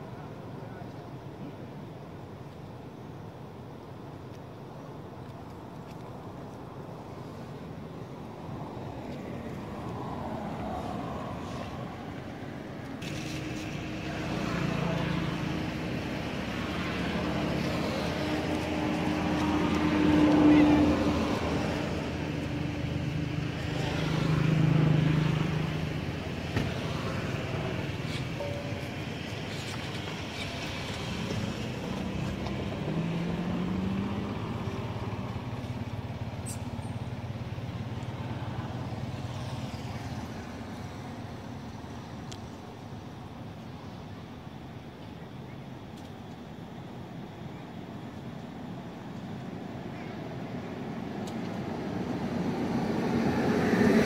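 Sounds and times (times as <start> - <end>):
background noise: 0.0 - 54.0
engine hum: 6.0 - 54.0.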